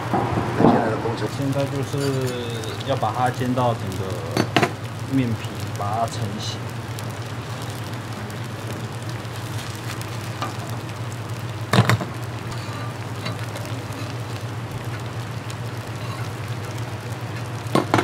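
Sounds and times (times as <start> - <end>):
dumplings sizzling in oil: 0.0 - 18.0.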